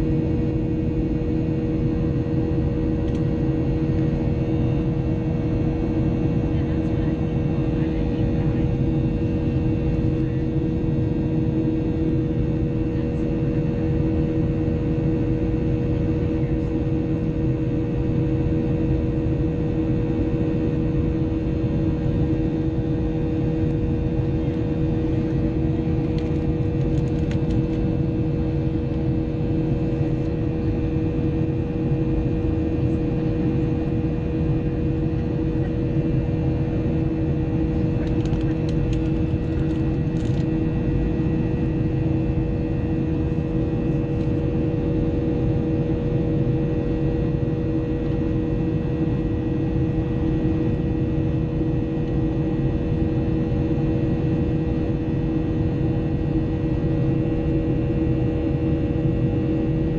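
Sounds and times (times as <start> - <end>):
constant engine whine: 0.0 - 59.9
jet engine cabin drone: 0.0 - 59.9.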